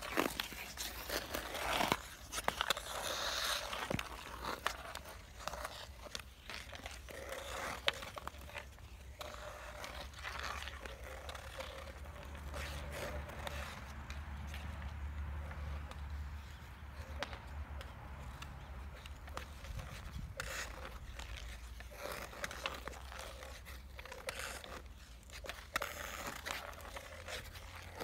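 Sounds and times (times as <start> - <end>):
ice skate blades scraping ice: 0.0 - 28.0.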